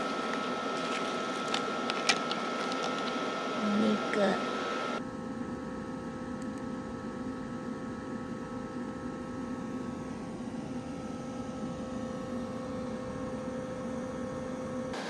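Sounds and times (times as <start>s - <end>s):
mechanical hum with light hiss: 0.0s - 15.0s.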